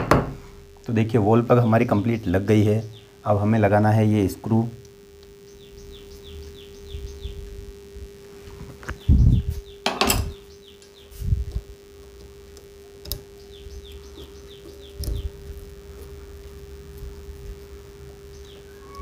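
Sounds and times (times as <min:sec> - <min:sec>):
steady low hum: 0:00.0 - 0:19.0
small birds chirping: 0:00.9 - 0:19.0.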